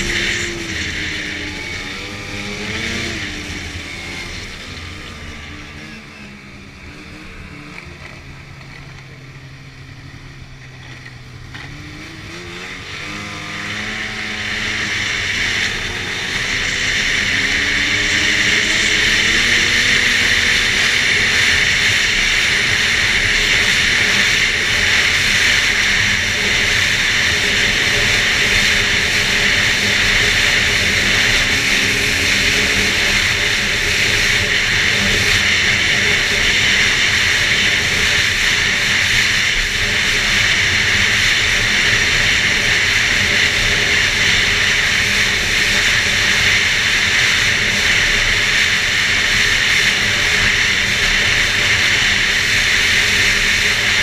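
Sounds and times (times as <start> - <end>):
loud steady rush: 0.0 - 54.0
snowmobile engine accelerating: 0.0 - 54.0.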